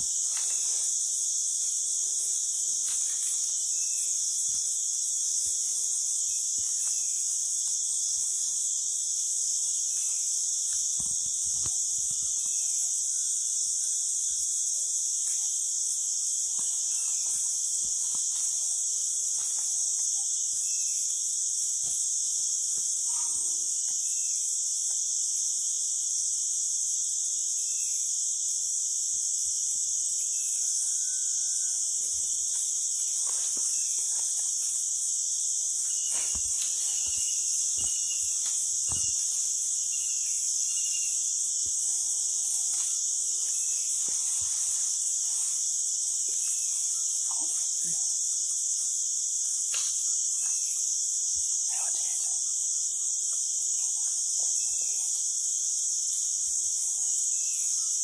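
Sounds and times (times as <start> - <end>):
insect chorus drone: 0.0 - 58.0
insect ticks and chirps: 0.0 - 58.0.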